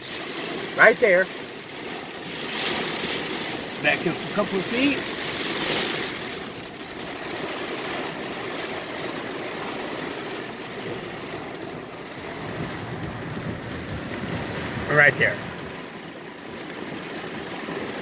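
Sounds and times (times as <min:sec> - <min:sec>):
car engine running: 0:00.0 - 0:18.0
heavy rain on a car: 0:00.0 - 0:18.0.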